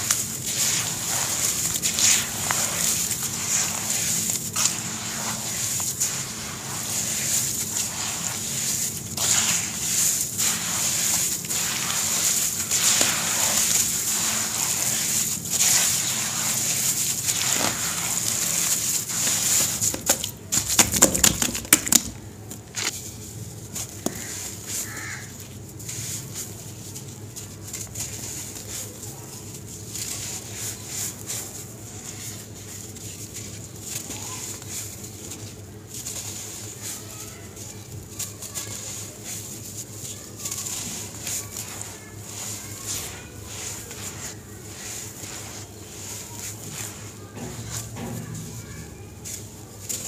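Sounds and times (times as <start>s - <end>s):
sharp crackles: 0.0s - 20.3s, 23.7s - 50.0s
hands kneading damp cement mix: 0.0s - 50.0s.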